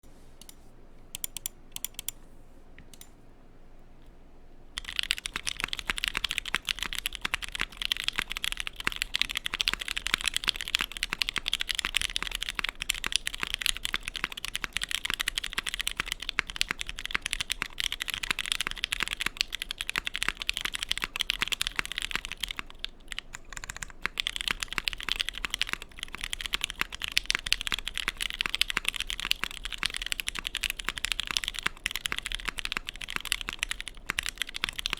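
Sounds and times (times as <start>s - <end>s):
mechanical keyboard typing: 1.2s - 2.2s, 4.8s - 34.9s.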